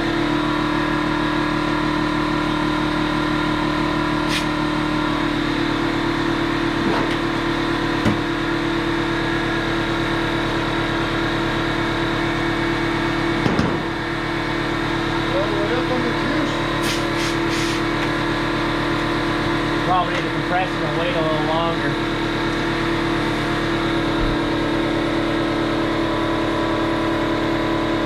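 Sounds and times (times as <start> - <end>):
air compressor running: 0.0 - 28.0.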